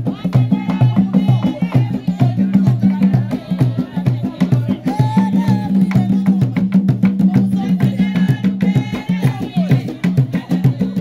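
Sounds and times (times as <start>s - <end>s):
drum-led dance music: 0.0s - 11.0s.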